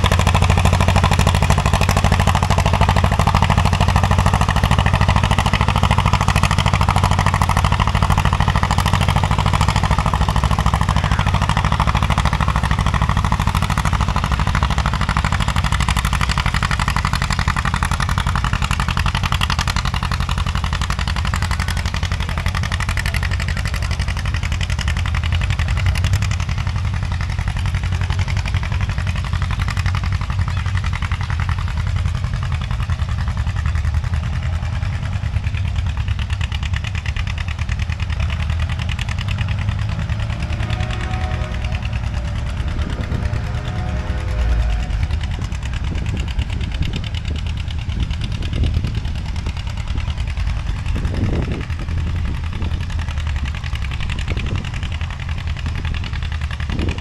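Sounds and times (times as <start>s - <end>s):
tractor engine droning: 0.0s - 57.0s.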